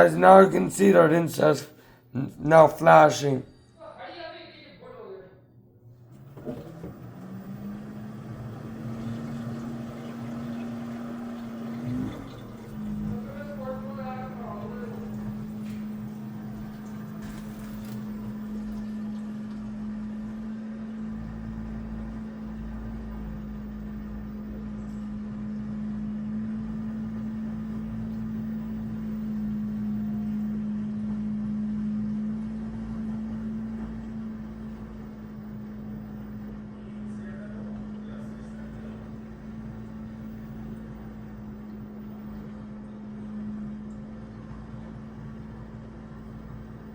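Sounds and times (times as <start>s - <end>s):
washing machine low rumble: 0.0s - 3.7s, 5.6s - 46.9s
washing machine hum: 0.0s - 4.2s, 5.5s - 46.9s.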